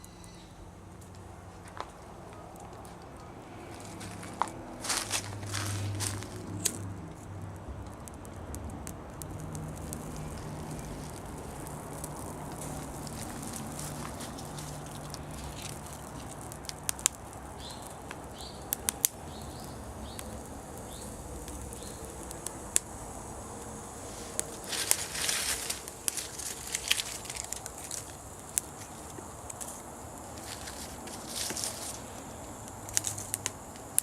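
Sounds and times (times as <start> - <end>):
leaf bonfire crackling: 0.0 - 34.0
fire low rush: 0.8 - 34.0.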